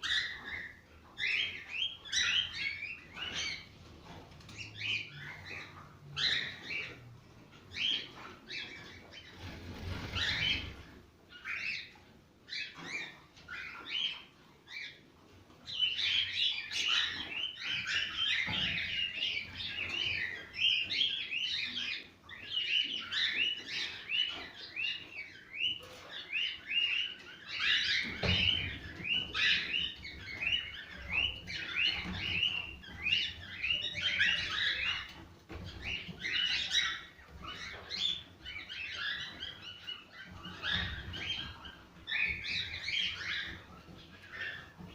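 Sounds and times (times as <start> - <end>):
cockatiels chirping and whistling: 0.0 - 7.0, 7.7 - 15.0, 15.6 - 44.9.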